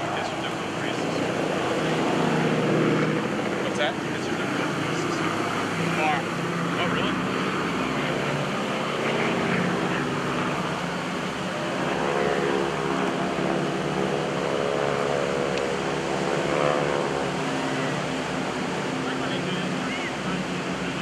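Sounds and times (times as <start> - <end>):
propeller planes droning: 0.0 - 21.0.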